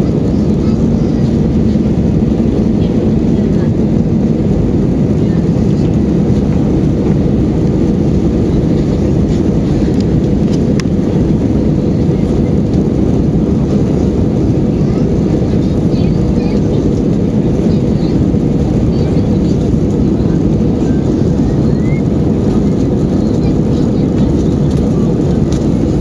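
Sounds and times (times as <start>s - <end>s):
airliner engine rumble: 0.0s - 26.0s.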